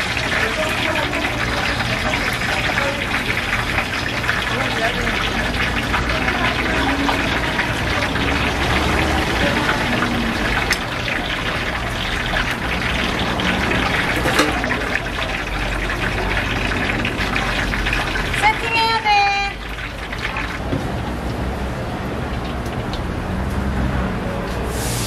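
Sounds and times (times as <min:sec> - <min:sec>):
frying oil sizzling: 0:00.0 - 0:25.0.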